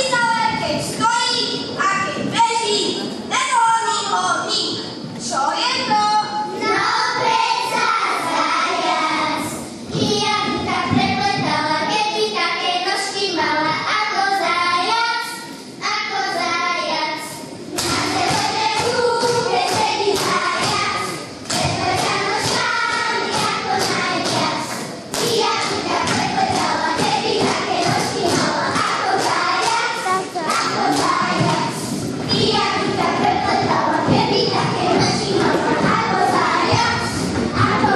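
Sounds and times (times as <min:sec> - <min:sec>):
girls singing folk song: 0:06.6 - 0:37.9.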